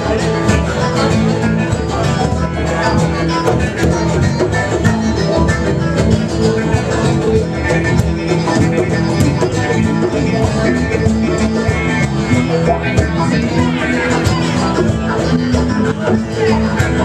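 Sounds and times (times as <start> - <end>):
guitar and plucked strings: 0.0 - 17.0
live bluegrass band playing: 0.0 - 17.0.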